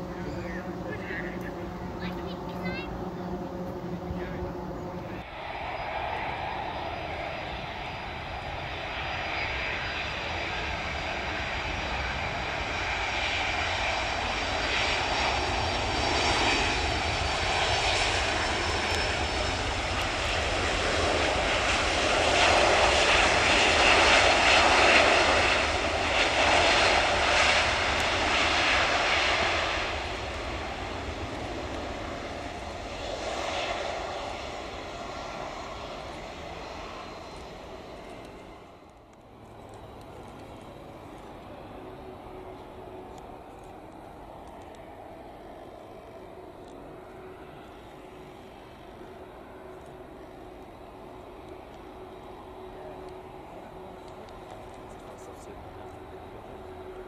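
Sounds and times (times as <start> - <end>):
jet engines of rolling aircraft: 0.0 - 57.0.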